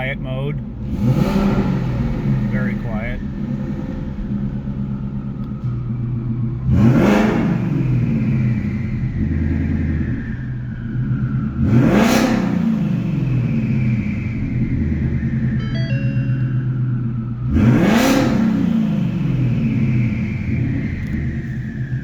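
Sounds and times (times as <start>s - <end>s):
car engine revving: 0.0s - 15.6s, 16.6s - 22.0s.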